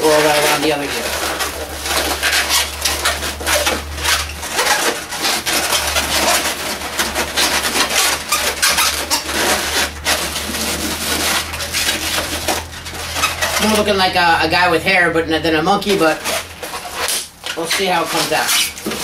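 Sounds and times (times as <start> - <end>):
balloons squeaking and rubbing: 0.0 - 19.0.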